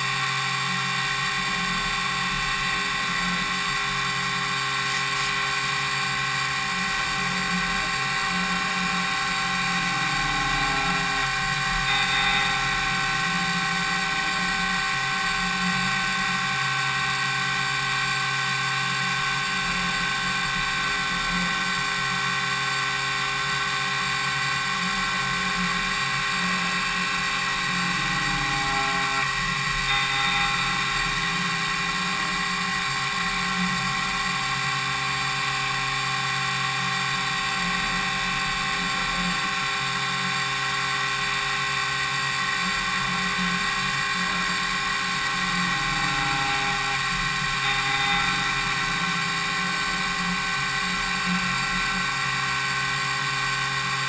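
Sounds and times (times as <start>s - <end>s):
milling machine whine: 0.0s - 54.0s
low spindle hum: 0.1s - 53.6s.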